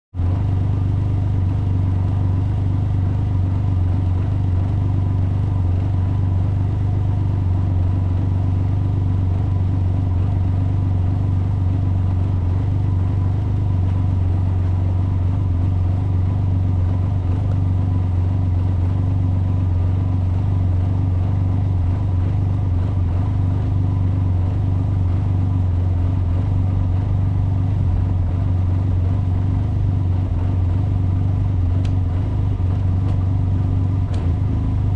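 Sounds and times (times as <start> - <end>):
engine and road drone: 0.1 - 34.9.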